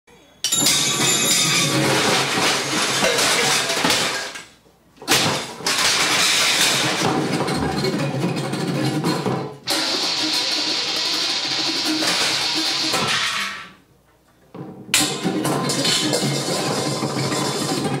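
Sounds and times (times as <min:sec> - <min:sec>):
harsh clattering noise music: 0:00.5 - 0:13.8, 0:14.8 - 0:18.0.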